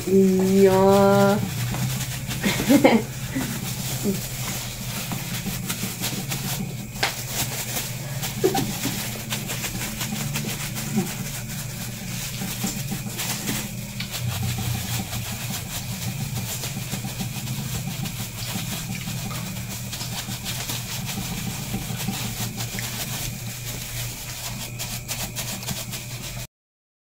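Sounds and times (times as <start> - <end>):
low machine hum: 0.0 - 26.5
plastic bag crinkling: 0.0 - 26.5.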